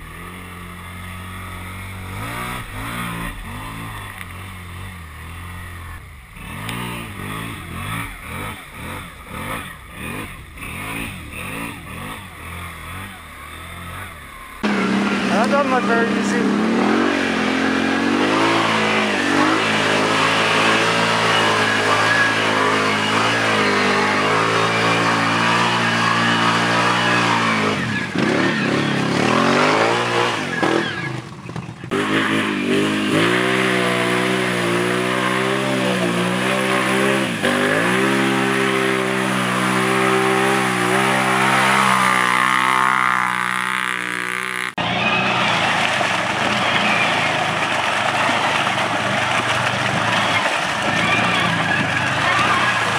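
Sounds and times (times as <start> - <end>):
atv engine revving: 0.0 - 52.9.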